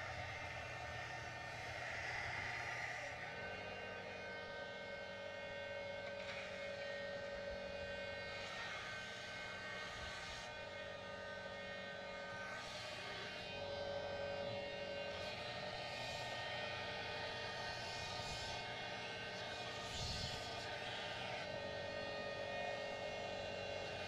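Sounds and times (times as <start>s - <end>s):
sander motor whining: 0.0s - 24.0s.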